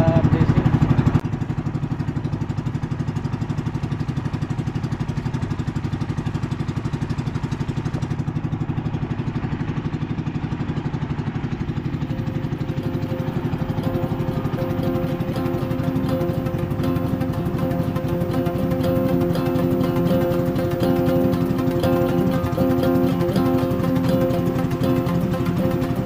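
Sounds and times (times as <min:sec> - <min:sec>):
small boat engine running: 0:00.0 - 0:26.0.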